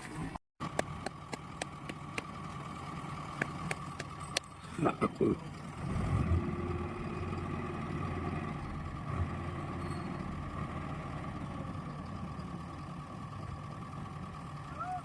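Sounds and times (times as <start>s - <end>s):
diesel engine idling: 0.2s - 15.0s.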